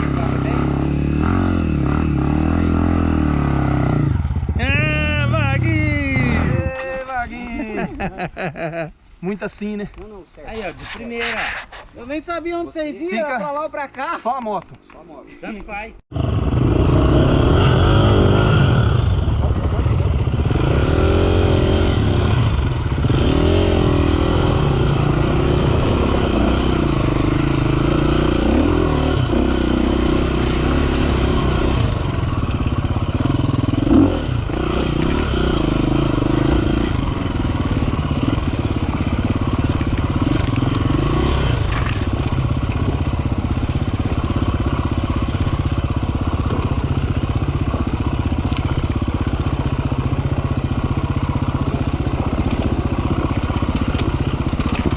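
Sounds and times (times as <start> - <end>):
dirt bike engine revving: 0.0 - 6.6, 16.1 - 54.9.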